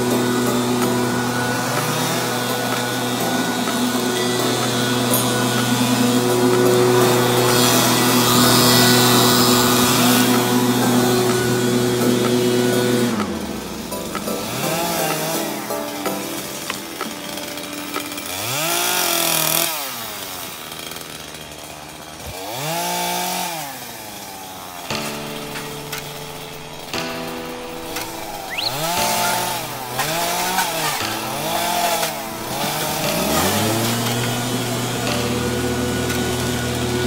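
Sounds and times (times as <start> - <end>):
chainsaw engine revving: 0.0 - 37.0.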